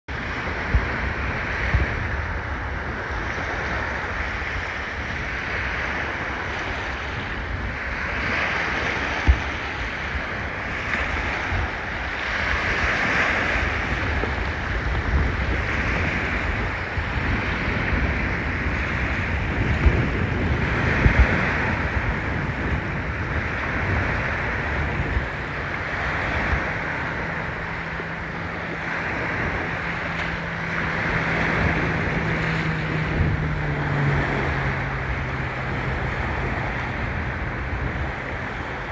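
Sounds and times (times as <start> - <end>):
small waves breaking on shore: 0.1 - 38.9
wind buffeting microphone: 0.1 - 38.9.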